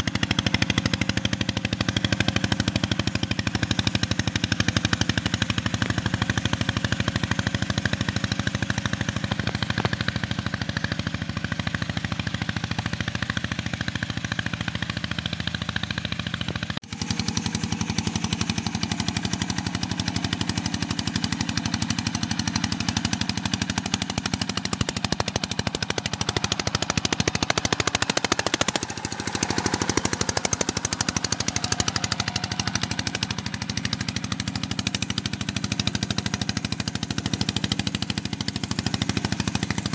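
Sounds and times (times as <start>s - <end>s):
tractor engine popping under load: 0.0s - 39.9s.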